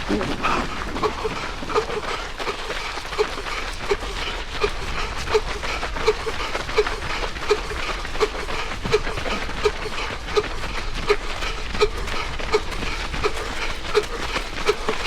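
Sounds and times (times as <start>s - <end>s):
runner wheezing breathing: 0.0s - 15.0s.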